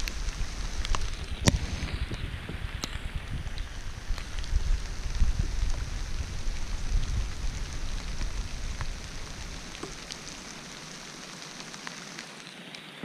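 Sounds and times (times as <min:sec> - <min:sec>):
wind rumble on microphone: 0:00.0 - 0:11.0
steady rain falling: 0:00.0 - 0:13.0.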